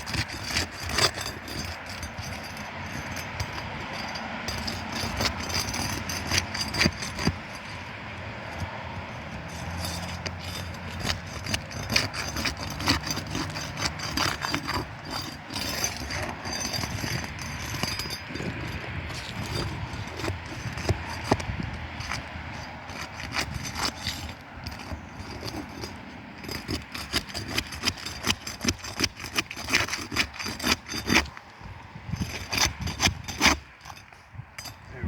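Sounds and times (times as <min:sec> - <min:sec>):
roof shingle scraping and tearing: 0:00.0 - 0:34.3.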